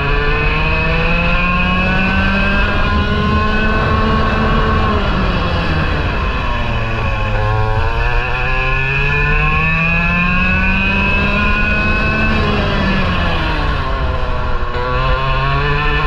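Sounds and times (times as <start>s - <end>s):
kart engine accelerating: 0.0s - 16.0s.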